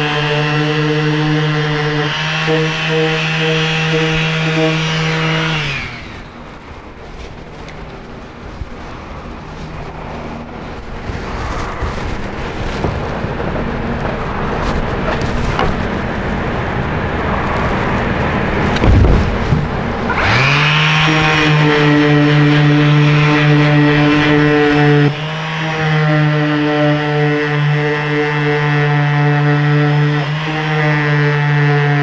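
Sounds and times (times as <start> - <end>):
orbital sander running: 0.0 - 32.0.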